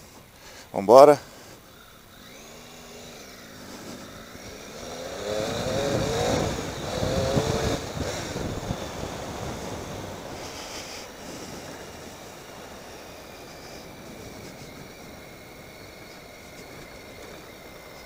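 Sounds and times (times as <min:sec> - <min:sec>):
motorcycle engine accelerating: 0:01.2 - 0:18.0
wind noise: 0:02.2 - 0:18.0.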